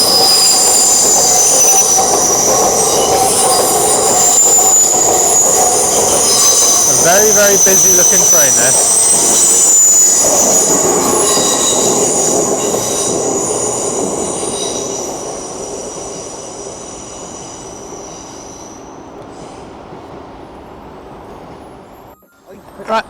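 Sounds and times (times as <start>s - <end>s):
electric train rumbling: 0.0s - 23.0s
train wheels squealing: 0.0s - 23.0s.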